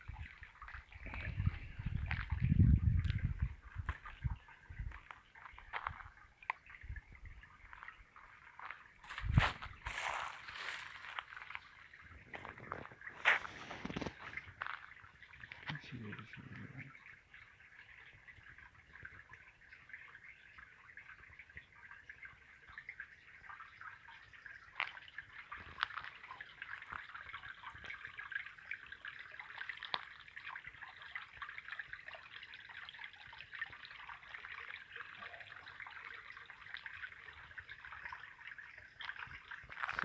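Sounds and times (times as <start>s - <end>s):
stream trickling over stones: 0.0s - 40.0s.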